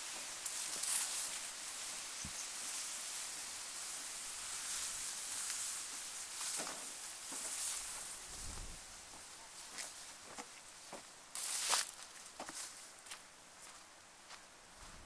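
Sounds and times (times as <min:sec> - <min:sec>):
soft footsteps on a path: 0:00.0 - 0:15.0
steady outdoor hiss: 0:00.0 - 0:15.0.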